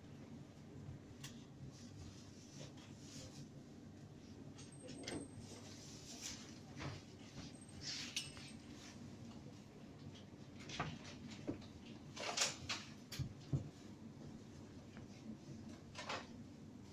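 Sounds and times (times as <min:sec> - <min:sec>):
low background hum: 0:00.0 - 0:16.9.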